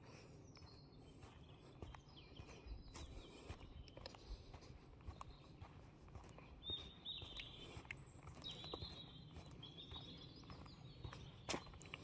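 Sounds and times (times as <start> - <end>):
faint birds chirping: 0.0 - 12.0
footsteps on sandy path: 0.0 - 12.0.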